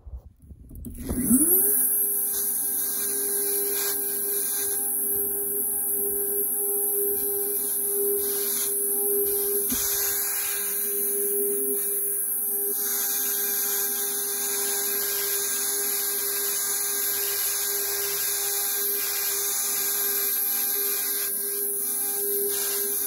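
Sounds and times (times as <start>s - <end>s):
router motor whine: 0.7s - 23.0s.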